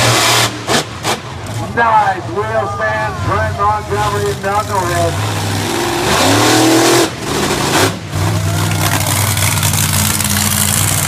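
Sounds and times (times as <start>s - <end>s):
truck engine revving: 0.0s - 2.3s, 3.2s - 11.0s.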